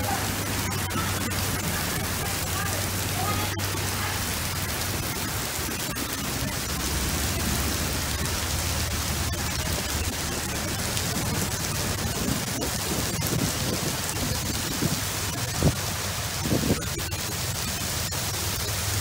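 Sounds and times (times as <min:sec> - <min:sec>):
heavy rain and hail on pavement: 0:00.0 - 0:19.0.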